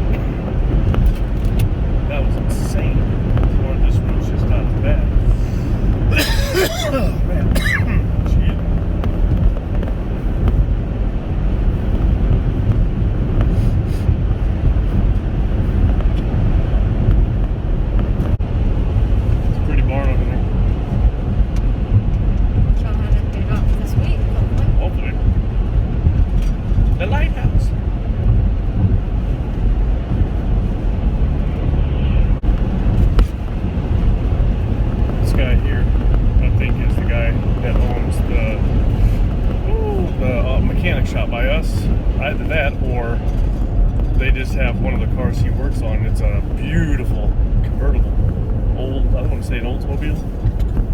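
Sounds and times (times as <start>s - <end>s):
car road and engine noise: 0.0s - 50.9s.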